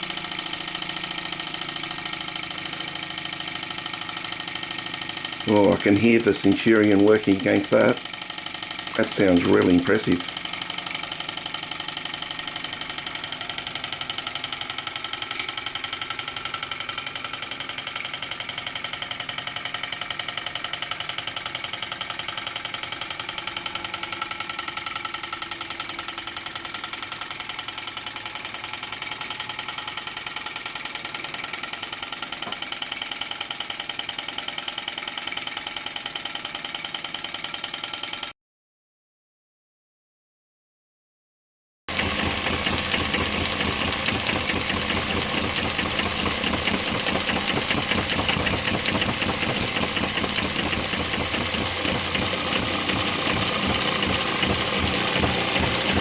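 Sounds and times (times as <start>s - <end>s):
model engine running: 0.0s - 38.3s, 41.9s - 56.0s.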